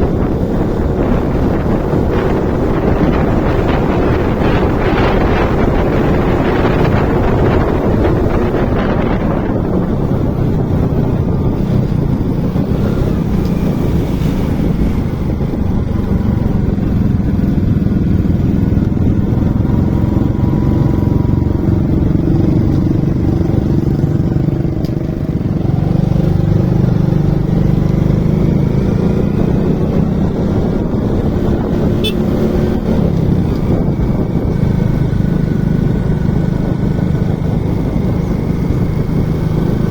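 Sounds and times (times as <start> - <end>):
motorcycle engine drone: 0.0 - 39.9
wind rushing over microphone: 0.0 - 39.9.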